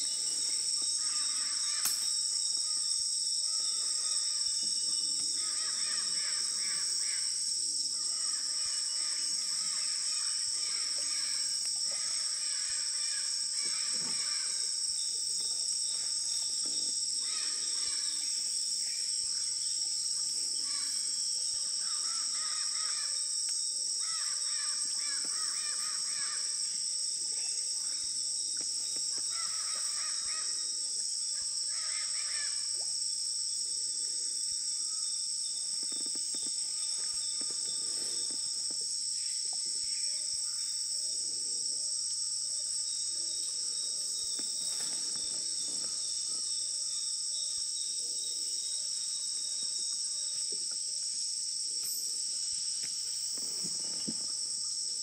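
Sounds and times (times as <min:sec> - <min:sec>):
shrill insect chorus: 0:00.0 - 0:55.0.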